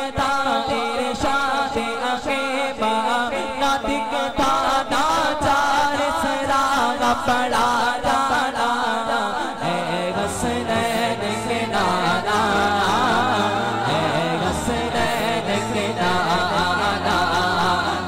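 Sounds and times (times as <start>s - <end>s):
layered vocal backing: 0.0s - 18.0s
man chanting devotional song: 0.0s - 18.0s.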